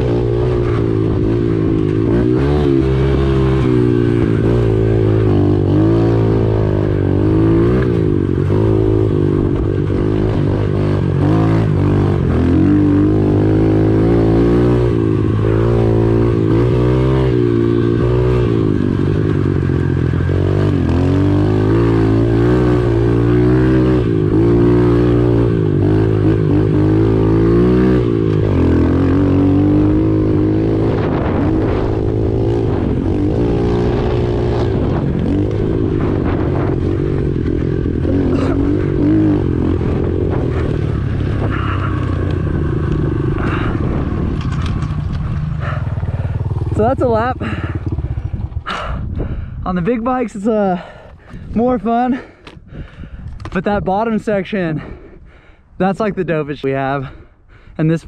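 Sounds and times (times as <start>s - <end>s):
motorbike engine revving: 0.0s - 56.2s.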